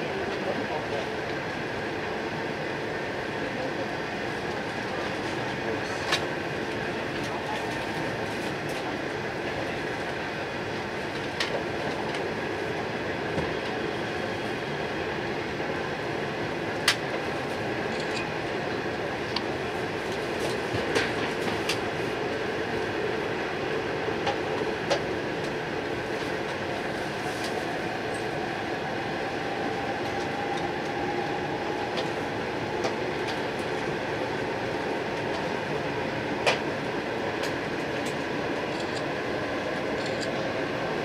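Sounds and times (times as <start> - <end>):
train cabin rumble and hiss: 0.0 - 41.0.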